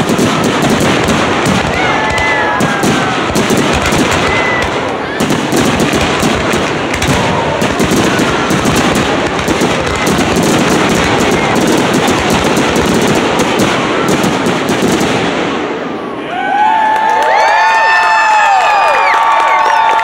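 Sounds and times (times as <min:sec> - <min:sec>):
fireworks bursting with bangs and crackle: 0:00.0 - 0:16.1.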